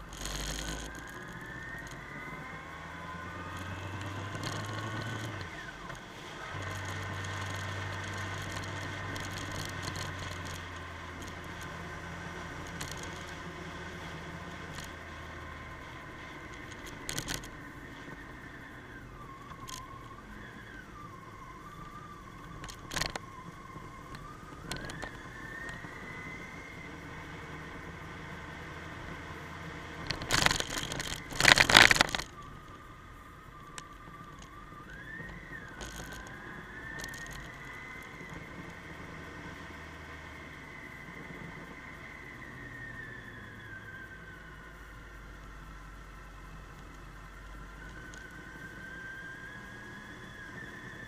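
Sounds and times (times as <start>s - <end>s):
motorcycle engine and road noise: 0.0s - 51.0s.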